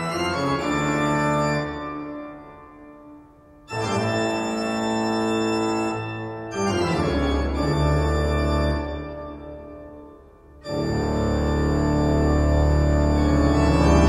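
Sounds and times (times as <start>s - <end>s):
organ chords: 0.0s - 14.0s.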